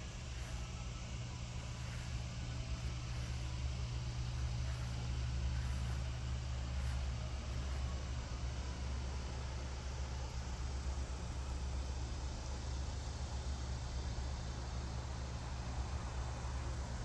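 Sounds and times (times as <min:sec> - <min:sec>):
outdoor background hum: 0:00.0 - 0:17.0.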